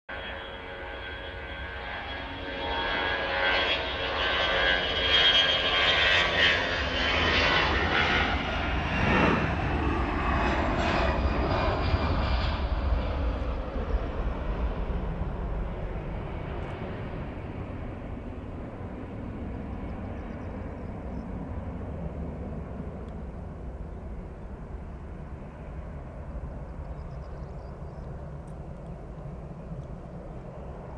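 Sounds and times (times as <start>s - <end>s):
jet engines rumbling and whistling: 0.1s - 30.9s.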